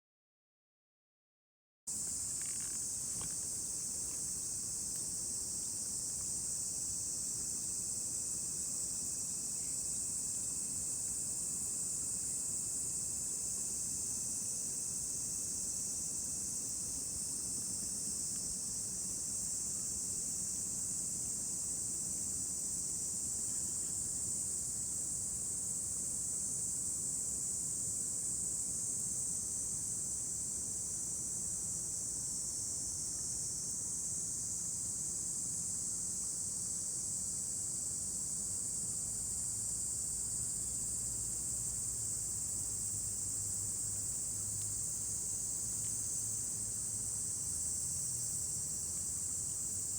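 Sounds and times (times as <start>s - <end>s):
insect chorus: 1.9s - 49.9s.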